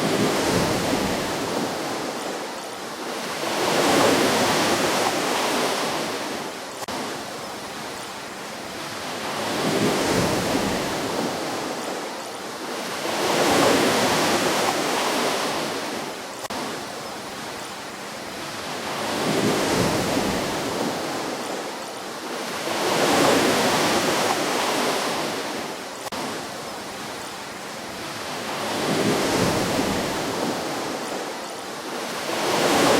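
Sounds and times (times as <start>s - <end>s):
ocean waves breaking on beach: 0.0s - 32.9s.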